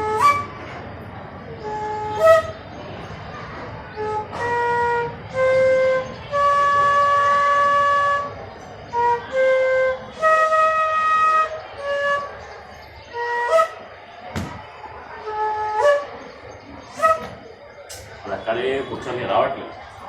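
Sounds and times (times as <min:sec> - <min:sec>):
flute playing held notes: 0:00.0 - 0:19.2.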